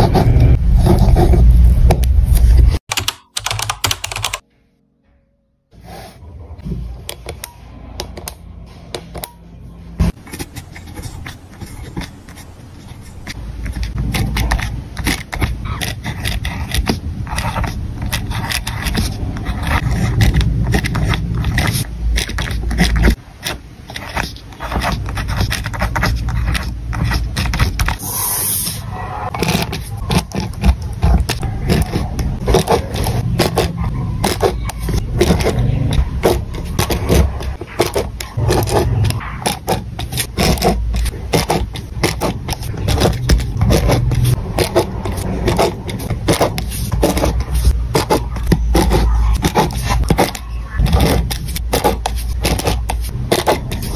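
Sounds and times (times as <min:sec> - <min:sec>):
pen scratching on paper: 0:00.0 - 0:02.9, 0:10.1 - 0:53.9.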